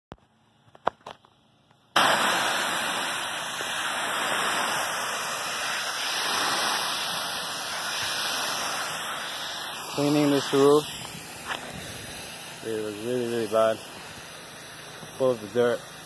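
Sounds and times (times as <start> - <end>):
washer wand spraying water: 2.0 - 16.0.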